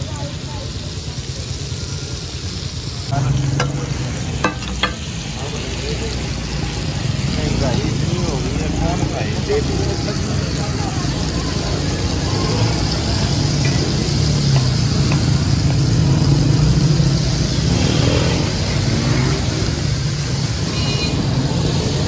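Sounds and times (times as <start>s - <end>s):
chicken sizzling in oil: 0.0s - 22.0s.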